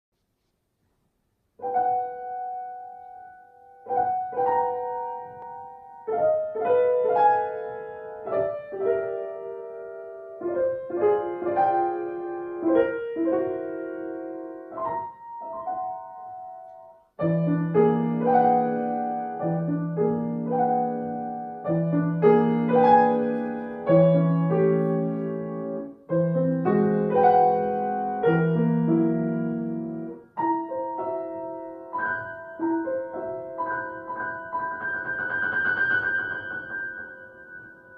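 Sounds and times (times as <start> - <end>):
solo grand piano: 0.3 - 37.9.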